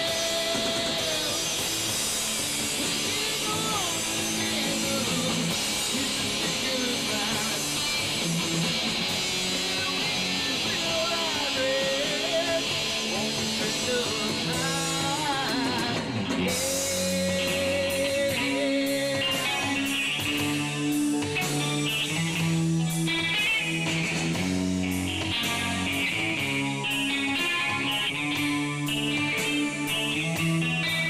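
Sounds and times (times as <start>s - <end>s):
rock music with electric guitar: 0.0s - 31.0s.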